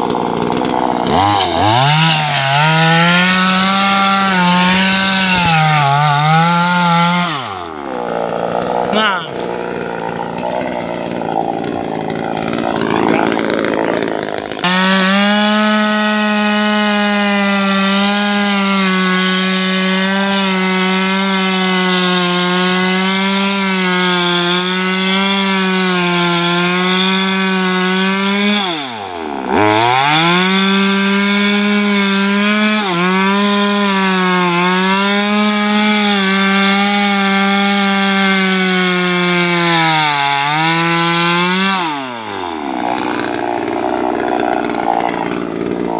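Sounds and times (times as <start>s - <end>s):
chainsaw cutting roots: 0.0s - 45.9s.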